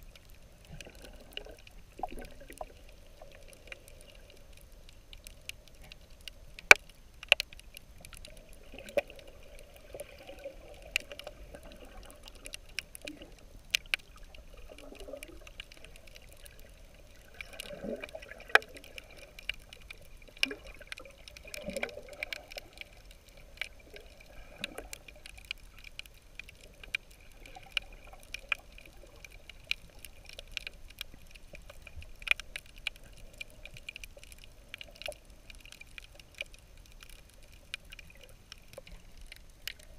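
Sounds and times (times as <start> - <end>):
bubbling gurgles: 0.0 - 6.0, 8.0 - 36.4
muffled underwater water movement: 0.0 - 39.9.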